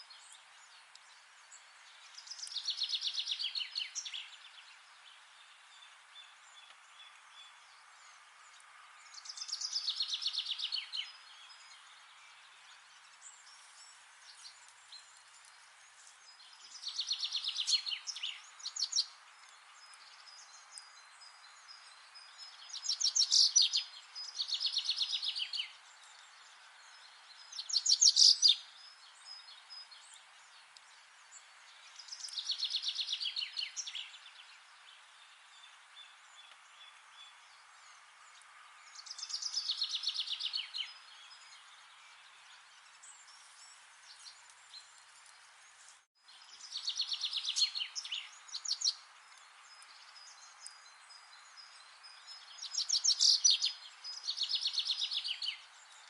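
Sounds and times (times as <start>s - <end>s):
songbird singing: 0.0s - 56.0s
steady background hiss: 0.0s - 56.0s.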